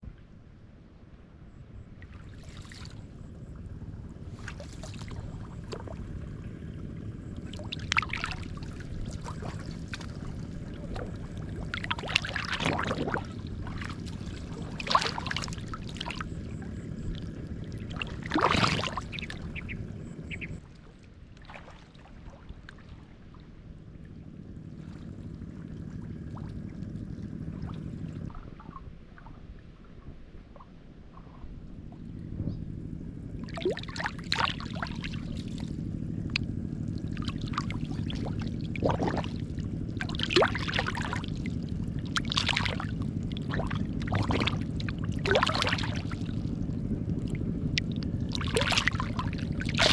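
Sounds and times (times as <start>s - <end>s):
shallow water splashing: 1.8s - 49.9s.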